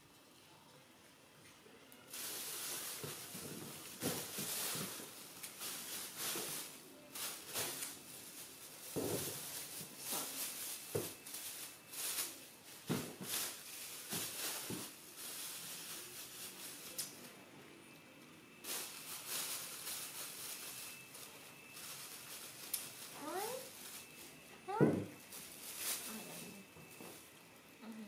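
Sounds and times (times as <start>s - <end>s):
steady hiss: 0.0s - 17.4s, 18.6s - 24.6s.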